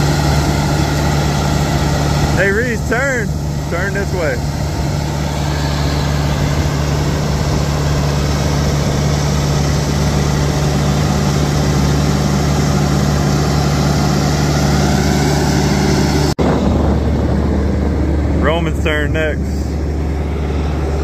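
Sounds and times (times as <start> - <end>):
dozer diesel engine droning: 0.0 - 21.0.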